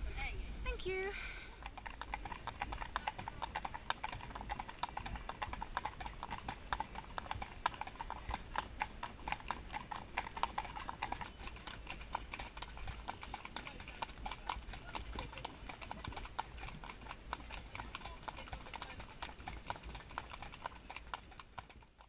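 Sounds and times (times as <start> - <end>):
horse hooves clip-clopping: 0.0 - 22.0.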